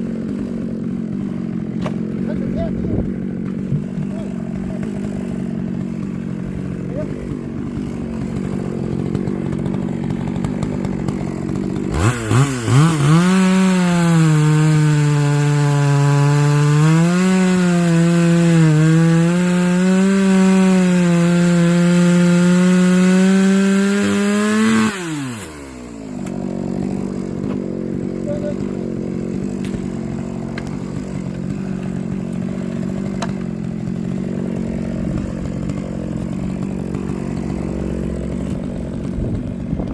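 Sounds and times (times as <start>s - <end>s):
chainsaw cutting log: 0.0s - 39.9s
chainsaw engine humming: 0.0s - 39.9s.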